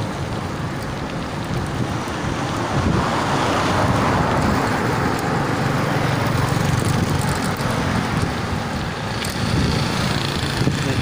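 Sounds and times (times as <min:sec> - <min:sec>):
street traffic: 0:00.0 - 0:11.0
wind on microphone: 0:00.1 - 0:11.0.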